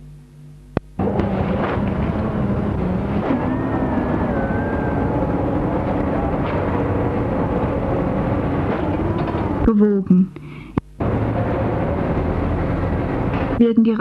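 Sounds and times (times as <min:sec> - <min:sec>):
faint wavering hums: 0:00.0 - 0:14.0
factory machinery running: 0:01.0 - 0:10.1, 0:11.0 - 0:14.0.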